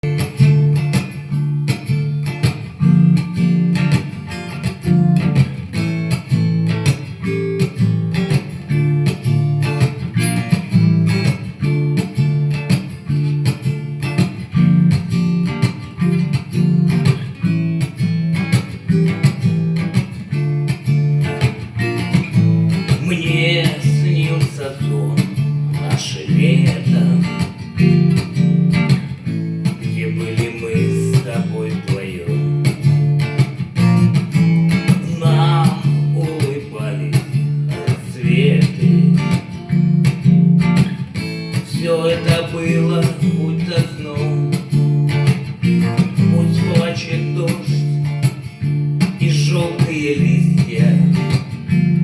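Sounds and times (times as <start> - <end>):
acoustic guitar strumming chords: 0.0 - 52.0.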